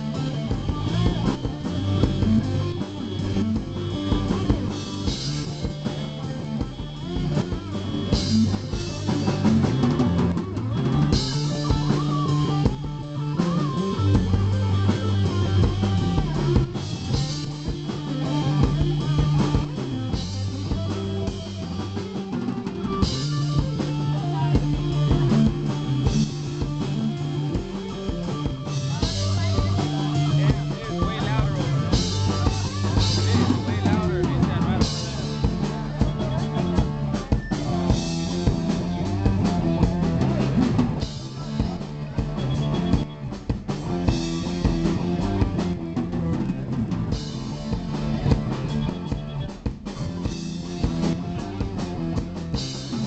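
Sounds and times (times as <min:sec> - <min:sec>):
drum kit: 0:00.0 - 0:53.0
electric bass: 0:00.0 - 0:53.0
electric guitar: 0:00.0 - 0:53.0.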